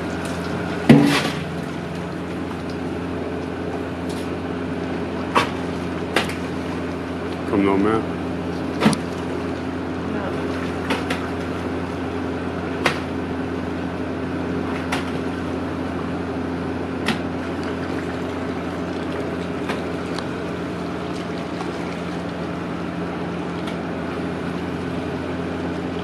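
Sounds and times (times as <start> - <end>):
motor droning: 0.0 - 26.0.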